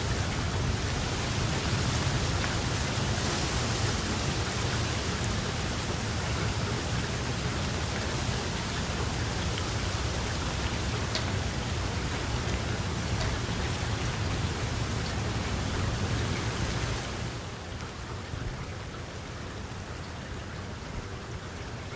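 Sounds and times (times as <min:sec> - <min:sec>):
raindrop ticks: 0:00.0 - 0:18.7
steady rain falling: 0:00.0 - 0:21.9.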